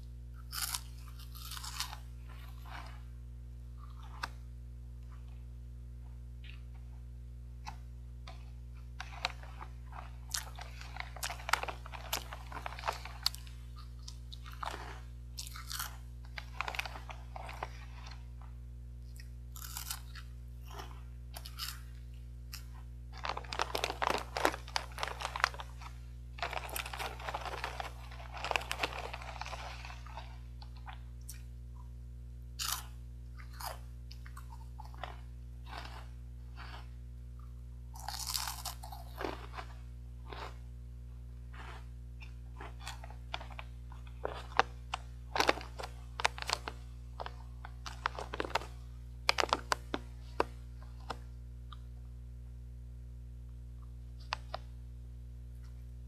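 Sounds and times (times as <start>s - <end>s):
steady low hum: 0.0s - 56.0s
crunchy snack being chewed: 0.4s - 3.1s, 7.6s - 31.9s, 32.6s - 40.7s, 41.4s - 51.9s.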